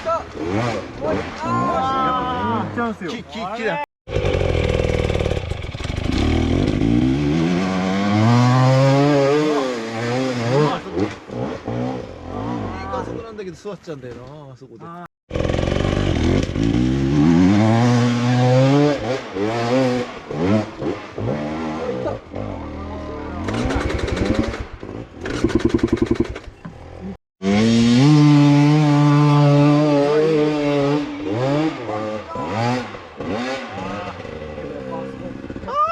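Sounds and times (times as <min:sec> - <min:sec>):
dirt bike engine revving: 0:00.3 - 0:01.4, 0:04.1 - 0:13.2, 0:15.3 - 0:35.7.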